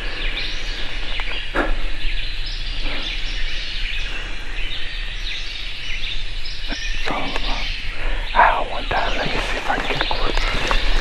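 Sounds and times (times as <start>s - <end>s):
songbirds chirping and trilling: 0.0s - 11.0s
steady low hum: 0.0s - 11.0s.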